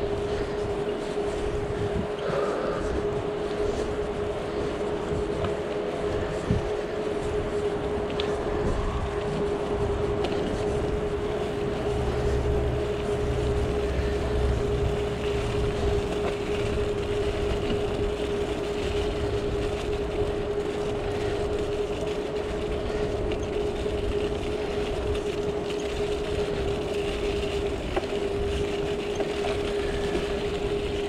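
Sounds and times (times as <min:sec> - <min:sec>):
bicycle tyres rumbling: 0:00.0 - 0:31.0
constant whine: 0:00.0 - 0:31.0.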